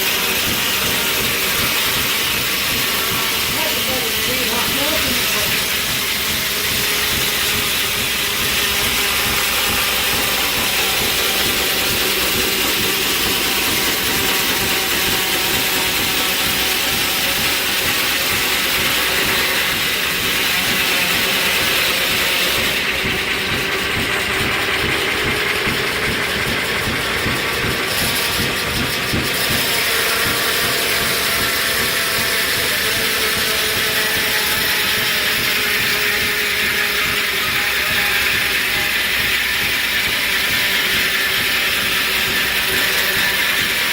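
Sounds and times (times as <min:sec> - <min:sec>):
sawmill machinery clattering: 0:00.0 - 0:43.9.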